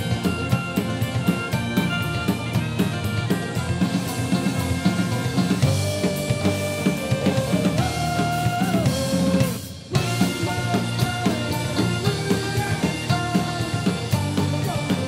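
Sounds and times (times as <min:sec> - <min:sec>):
bagpipe melody: 0:00.0 - 0:15.0
punk band playing: 0:00.0 - 0:15.0.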